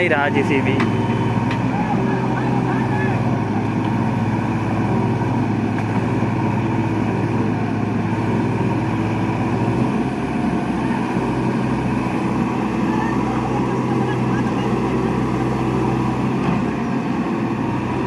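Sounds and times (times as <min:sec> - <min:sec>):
diesel engines running hard: 0:00.0 - 0:18.0.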